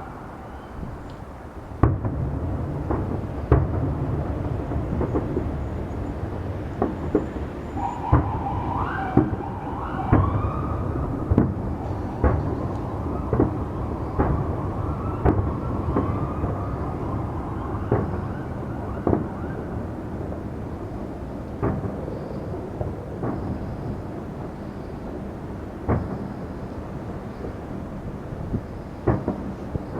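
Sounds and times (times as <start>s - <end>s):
fireworks bangs: 0.0s - 29.9s.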